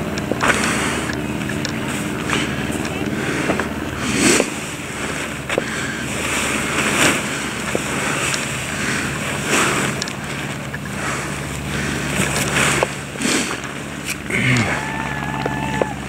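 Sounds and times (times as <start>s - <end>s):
parachute canopy rustling: 0.0s - 16.0s.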